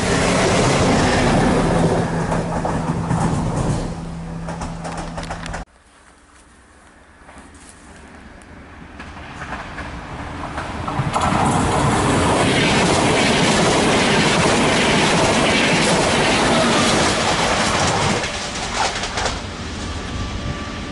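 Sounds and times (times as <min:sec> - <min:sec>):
train wheels clickety-clack on rails: 0:00.0 - 0:05.7, 0:08.8 - 0:20.0.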